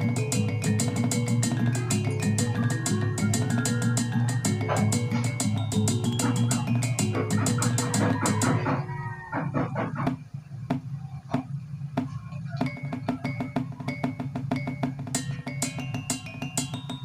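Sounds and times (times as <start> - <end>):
drums and percussion beat: 0.0 - 17.0.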